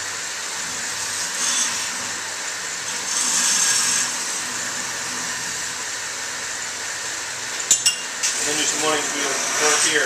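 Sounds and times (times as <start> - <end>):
belt grinder grinding steel: 0.0 - 10.0.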